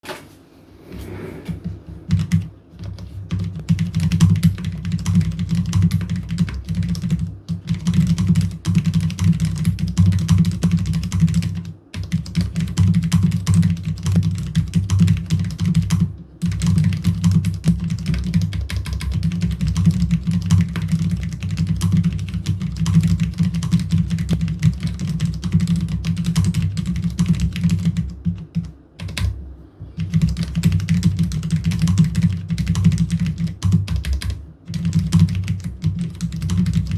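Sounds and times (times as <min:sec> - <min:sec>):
fast keyboard typing: 0:02.1 - 0:29.4, 0:30.0 - 0:36.9.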